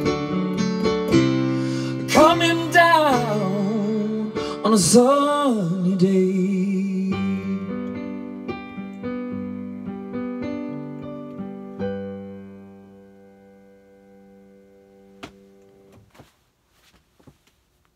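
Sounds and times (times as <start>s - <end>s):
piano chords: 0.0s - 16.1s.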